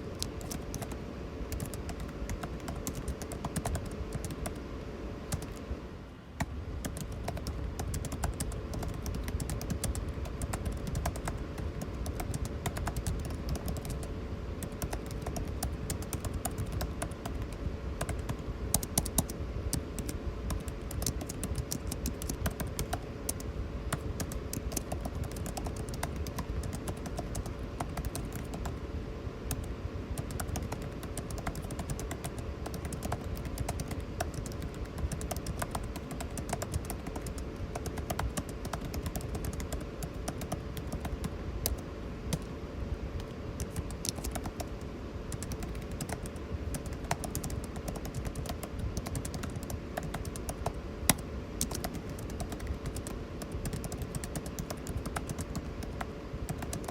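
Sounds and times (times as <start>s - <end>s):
air conditioning hum: 0.0s - 56.9s
typing on computer keyboard: 0.2s - 4.6s, 5.3s - 5.6s, 6.4s - 28.8s, 29.5s - 42.5s, 43.2s - 56.9s.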